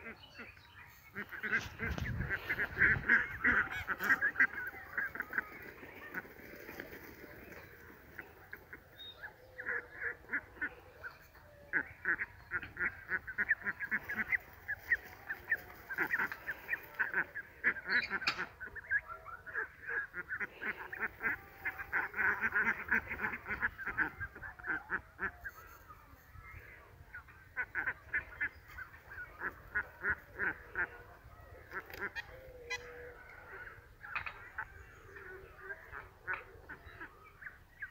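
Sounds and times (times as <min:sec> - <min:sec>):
ducks quacking: 0:00.0 - 0:37.9.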